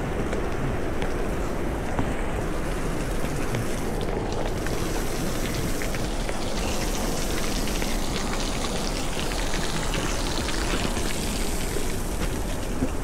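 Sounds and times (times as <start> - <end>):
water splashing ticks: 2.4 - 13.0.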